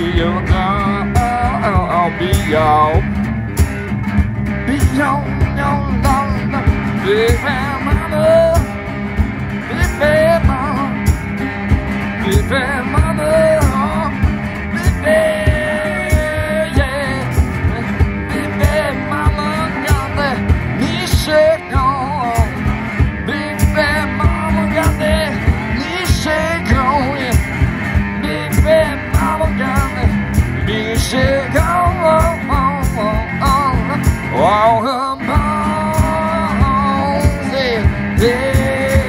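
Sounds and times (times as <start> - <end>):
resonator guitar blues: 0.0 - 39.0.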